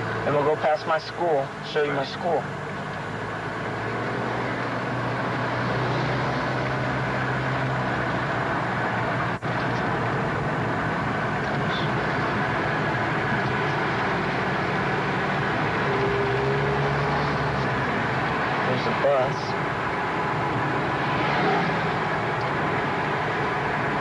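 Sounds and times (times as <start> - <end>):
road and engine noise in car: 0.0 - 24.0.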